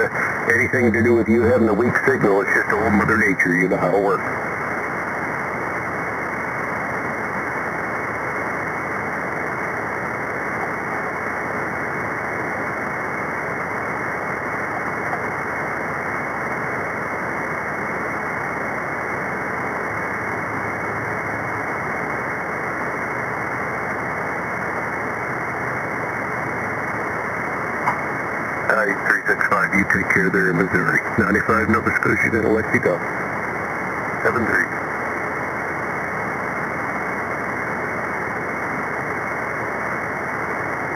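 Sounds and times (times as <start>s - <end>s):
radio static hiss: 0.0s - 40.9s.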